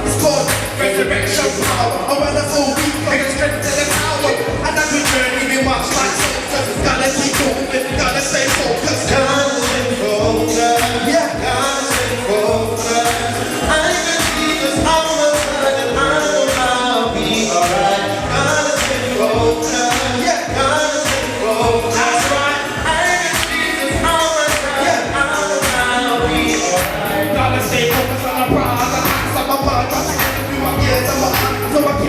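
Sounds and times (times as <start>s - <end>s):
hip-hop music with sung vocals: 0.0s - 32.0s.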